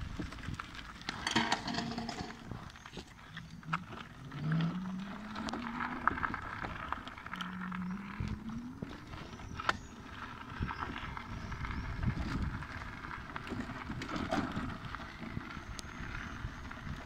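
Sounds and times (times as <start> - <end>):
tyres rumbling on path: 0.0 - 17.0
electric scooter motor whine: 2.5 - 17.0.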